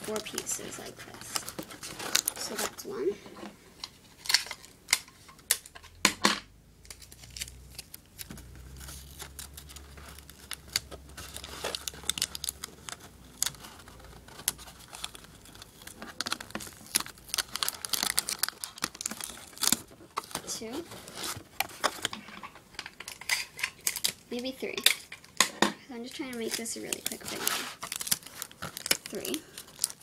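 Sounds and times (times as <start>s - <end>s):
tape crinkling on cardboard: 0.0s - 6.0s, 6.8s - 25.4s, 26.0s - 30.0s.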